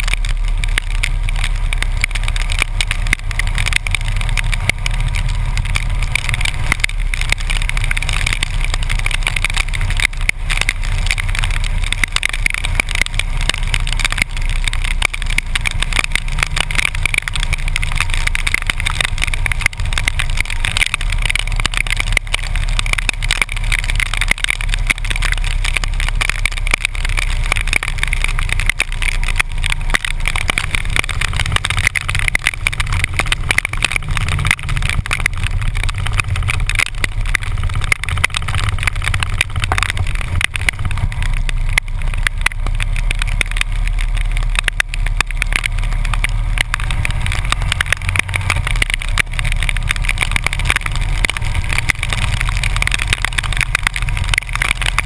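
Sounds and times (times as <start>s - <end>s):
motorcycle engine and wind rumble: 0.0s - 55.0s
rain striking camera: 0.0s - 55.0s.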